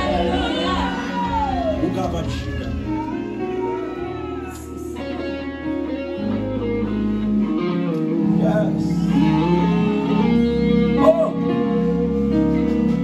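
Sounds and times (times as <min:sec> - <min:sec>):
church band music with guitar: 0:00.0 - 0:13.0.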